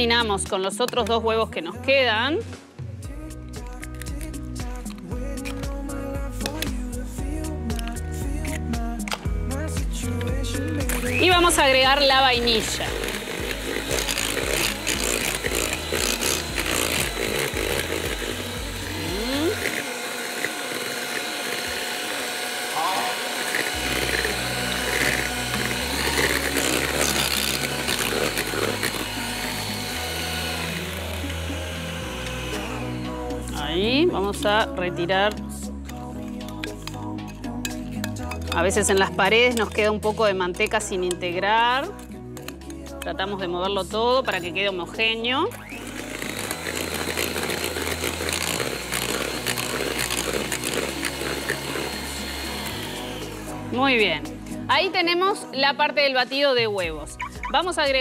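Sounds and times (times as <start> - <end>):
electric hand mixer whirring: 4.1 - 42.0, 43.8 - 55.7.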